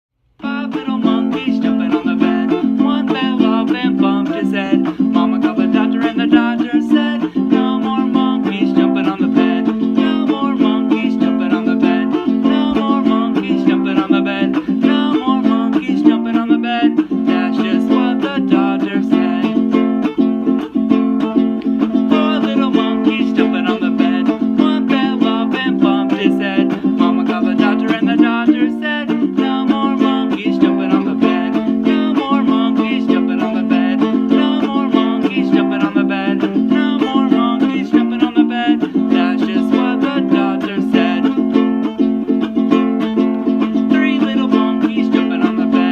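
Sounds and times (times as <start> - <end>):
plucked string instrument music: 0.4 - 45.9.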